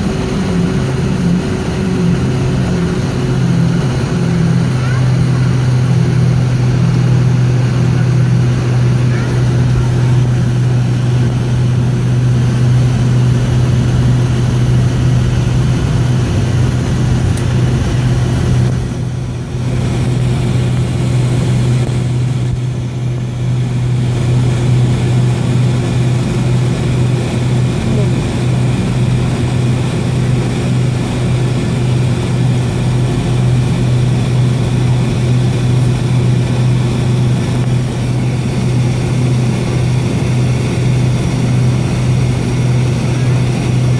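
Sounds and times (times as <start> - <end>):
jet engines low drone: 0.0 - 43.9.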